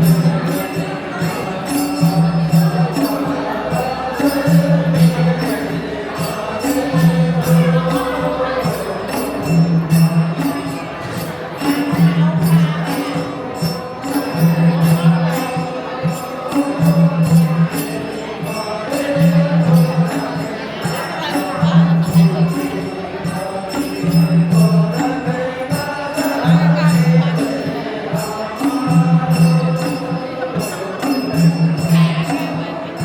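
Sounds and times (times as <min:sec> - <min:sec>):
percussion beat: 0:00.0 - 0:33.0
steady jingling rhythm: 0:00.0 - 0:33.0
voices singing a chant-like song: 0:00.0 - 0:33.0.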